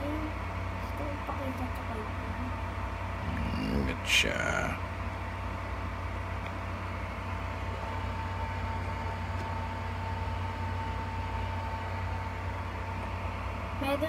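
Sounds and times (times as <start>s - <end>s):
incubator fan humming and whining: 0.0s - 14.0s.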